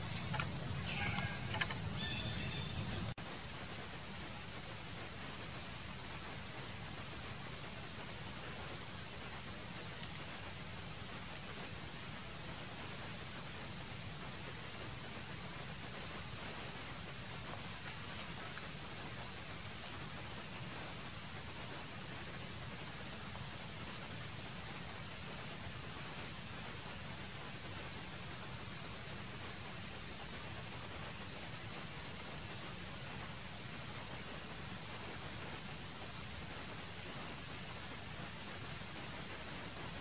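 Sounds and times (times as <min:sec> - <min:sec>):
faint background noise: 0:00.0 - 0:40.0
high-pitched insect chorus: 0:00.0 - 0:40.0.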